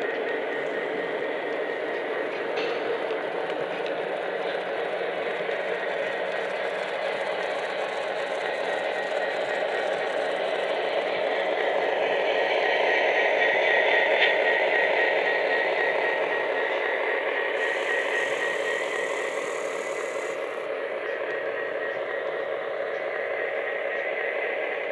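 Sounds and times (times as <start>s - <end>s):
model train rolling rumble: 0.0s - 24.9s.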